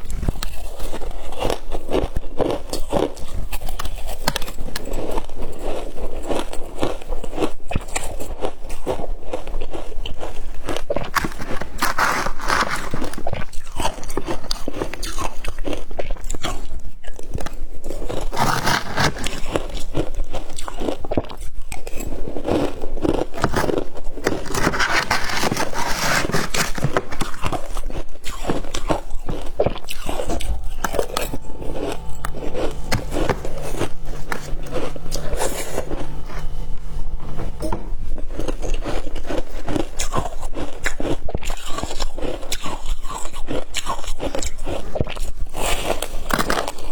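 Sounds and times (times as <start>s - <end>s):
person chewing ice crunching: 0.0s - 46.9s.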